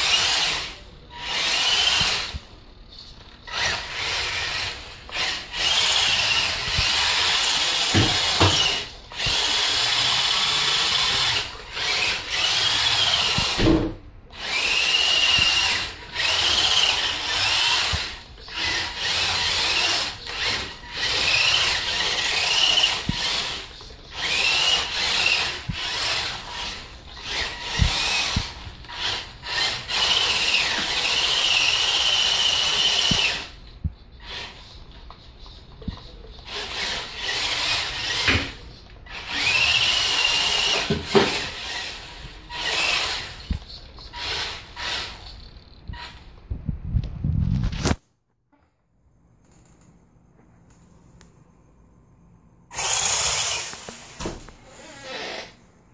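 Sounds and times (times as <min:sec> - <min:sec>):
toy car electric motor whining: 0:00.0 - 0:02.5, 0:03.4 - 0:13.6, 0:14.3 - 0:33.6, 0:34.2 - 0:46.3, 0:52.7 - 0:55.6.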